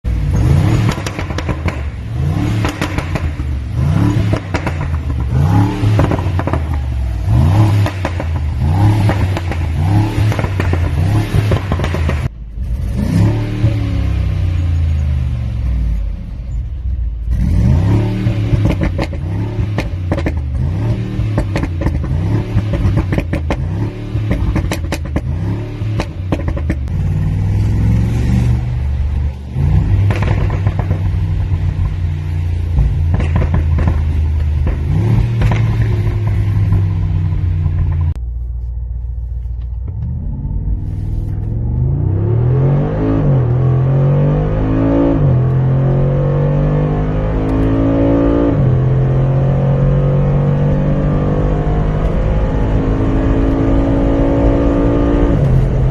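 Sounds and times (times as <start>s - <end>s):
exhaust crackling and popping: 0.0s - 13.0s, 16.7s - 42.2s, 48.4s - 55.9s
car engine revving: 0.0s - 16.1s, 17.0s - 38.3s, 39.4s - 55.9s.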